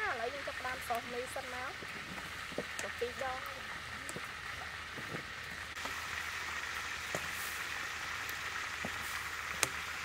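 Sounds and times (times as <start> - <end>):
water boiling in a wok: 0.0 - 10.0.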